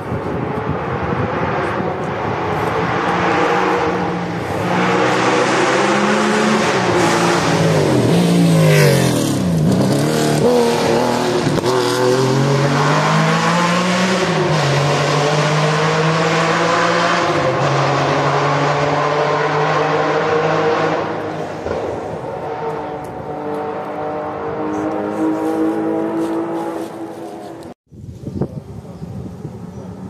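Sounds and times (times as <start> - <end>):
rally car engine passing: 0.0 - 27.8.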